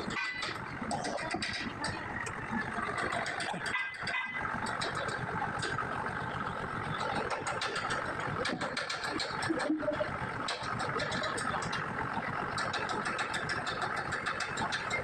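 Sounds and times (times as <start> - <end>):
engine running: 0.0 - 15.0
small clicks and knocks: 0.1 - 5.8, 6.9 - 9.8, 10.4 - 15.0.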